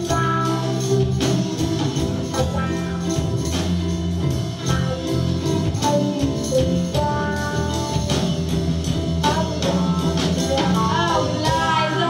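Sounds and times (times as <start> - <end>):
drum kit: 0.0 - 12.0
electric guitars: 0.0 - 12.0
live band playing: 0.0 - 12.0.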